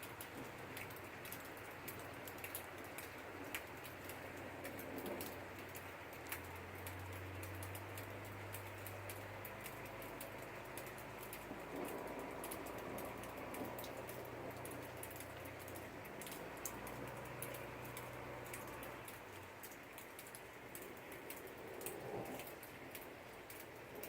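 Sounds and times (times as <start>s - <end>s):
raindrops tapping on hard surface: 0.0s - 24.0s
steady rain patter: 0.0s - 24.0s.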